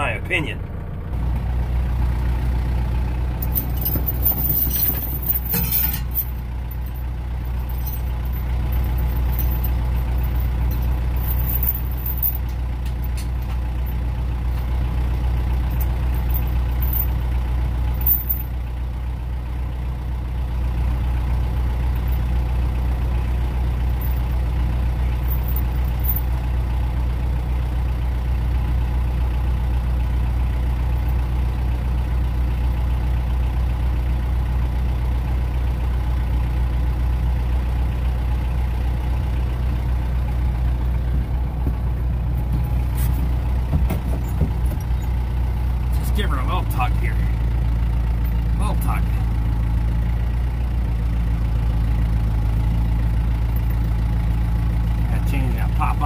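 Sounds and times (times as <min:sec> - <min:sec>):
farm vehicle engine running: 0:00.0 - 0:56.0.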